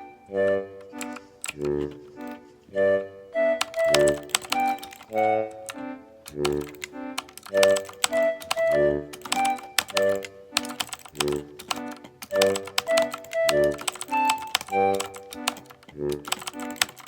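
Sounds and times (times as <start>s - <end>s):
background music: 0.0s - 17.0s
computer keyboard typing: 0.9s - 2.4s, 3.6s - 17.0s.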